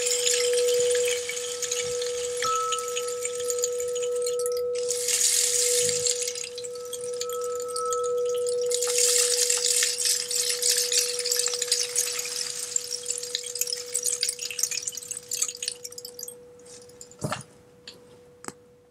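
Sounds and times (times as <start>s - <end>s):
singing bowl ringing: 0.0s - 17.2s
rain stick beads trickling: 0.0s - 17.4s.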